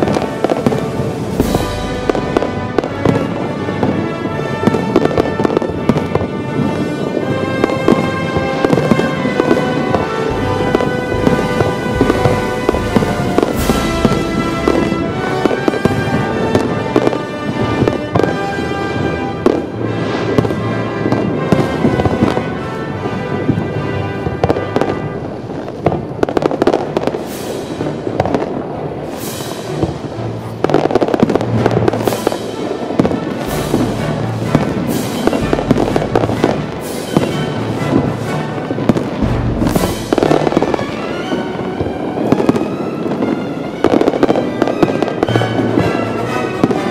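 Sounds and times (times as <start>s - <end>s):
fireworks bangs: 0.0s - 46.9s
fireworks crackling: 0.0s - 46.9s
music: 0.0s - 46.9s.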